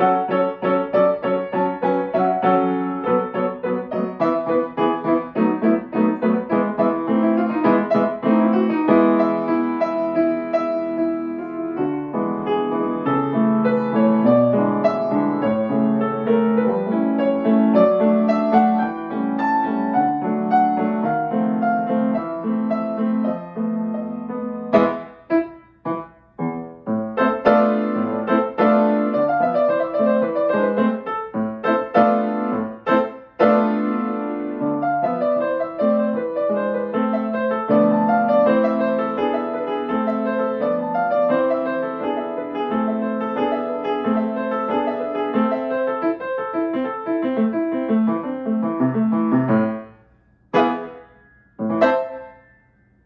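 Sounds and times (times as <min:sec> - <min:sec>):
grand piano playing: 0:00.0 - 0:53.0.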